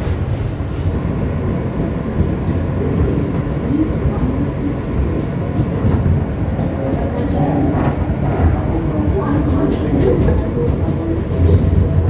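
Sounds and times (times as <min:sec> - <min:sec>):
subway wheels rumbling on rails: 0:00.0 - 0:12.0.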